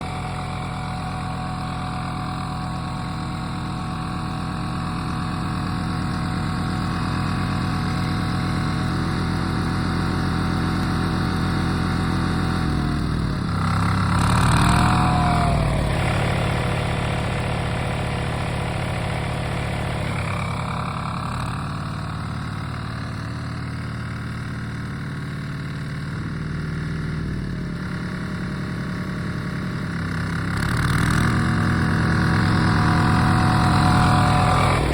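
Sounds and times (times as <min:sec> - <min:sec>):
diesel engine chugging: 0:00.0 - 0:34.9.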